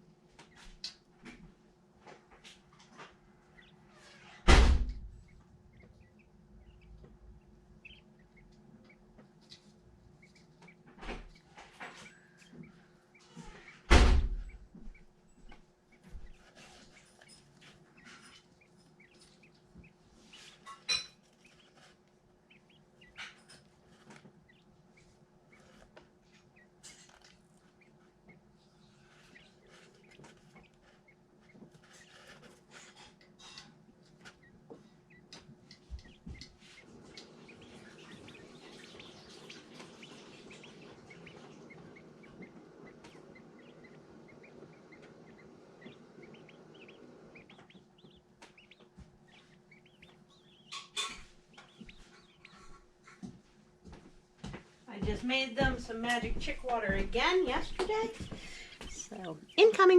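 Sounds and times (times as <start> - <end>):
chicks peeping: 2.1 - 59.9.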